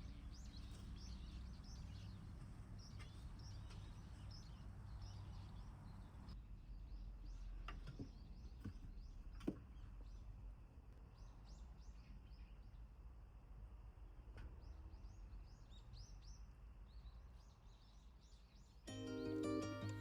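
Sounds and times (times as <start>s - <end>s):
small birds chirping: 0.0s - 13.1s, 14.5s - 20.0s.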